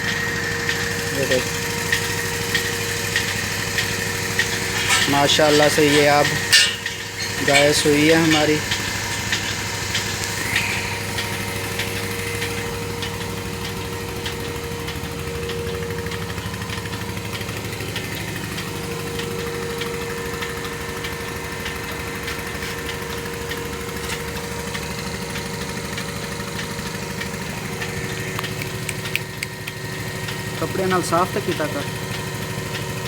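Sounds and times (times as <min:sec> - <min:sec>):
vacuum pump humming: 0:00.0 - 0:33.0
faint regular clicks: 0:01.8 - 0:32.9.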